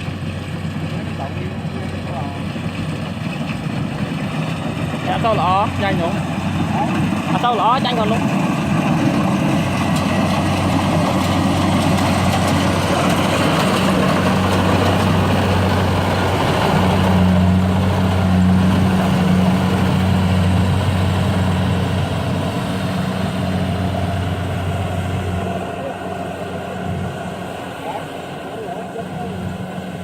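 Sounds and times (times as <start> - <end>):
heavy machine engine droning: 0.0 - 30.0.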